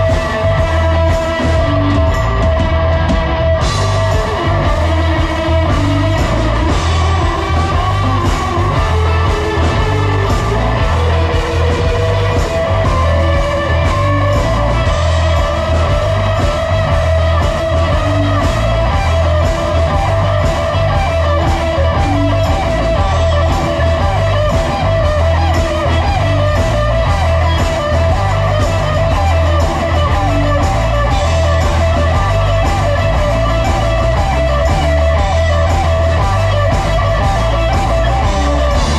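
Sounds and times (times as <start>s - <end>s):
drum kit: 0.0s - 38.9s
repeating bass figure: 0.0s - 38.9s.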